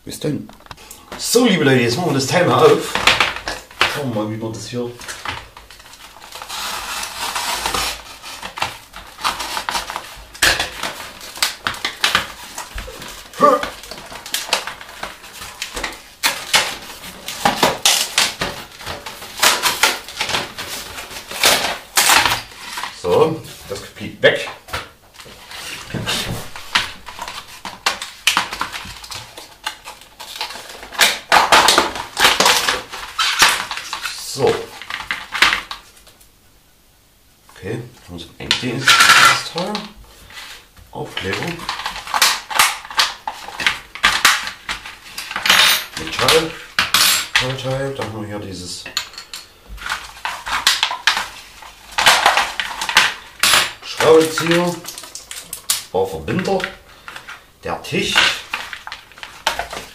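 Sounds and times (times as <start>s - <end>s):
packaging rustling and crinkling: 0.6s - 24.0s, 24.6s - 36.2s, 37.9s - 59.9s.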